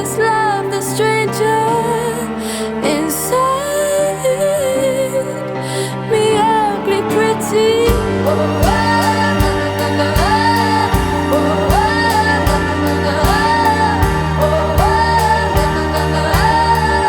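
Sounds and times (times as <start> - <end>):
pop song with steady beat: 0.0 - 17.0.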